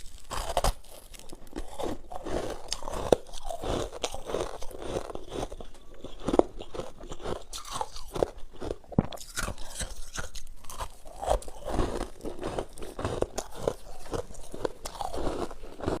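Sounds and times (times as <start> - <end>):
chewing crunchy frost: 0.0 - 16.0.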